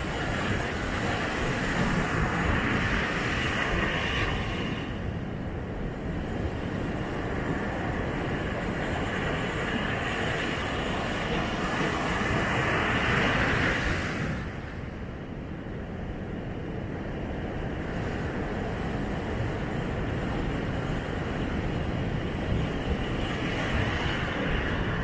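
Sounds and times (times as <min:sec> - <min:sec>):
ocean surf breaking: 0:00.0 - 0:05.2, 0:05.9 - 0:15.0, 0:17.6 - 0:25.0
wind: 0:00.0 - 0:25.0.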